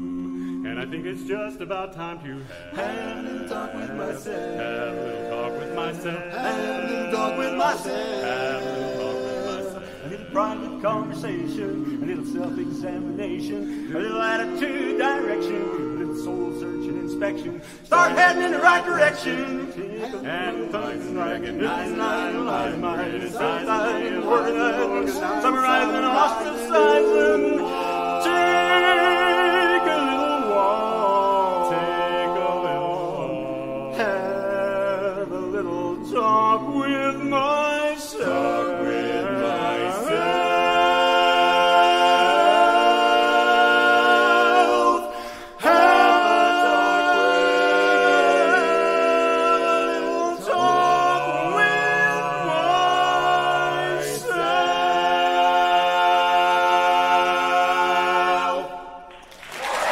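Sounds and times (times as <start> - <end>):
barbershop quartet singing: 0.0 - 59.2.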